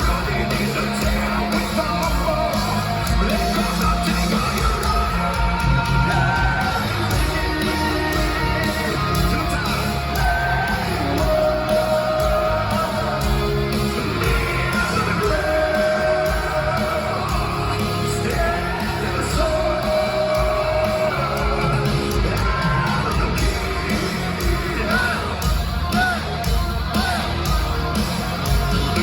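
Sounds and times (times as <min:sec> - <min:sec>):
crowd yelling: 0:00.0 - 0:29.0
heavy metal band playing live: 0:00.0 - 0:29.0.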